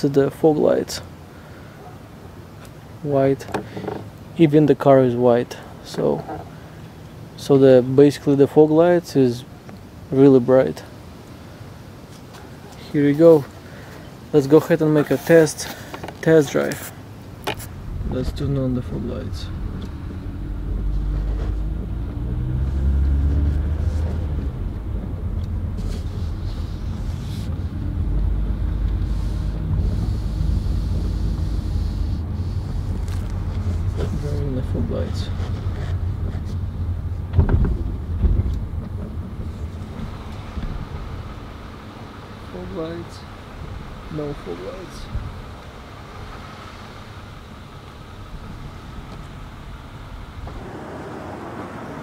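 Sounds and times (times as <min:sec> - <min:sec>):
minivan engine and road rumble: 0:00.0 - 0:52.0.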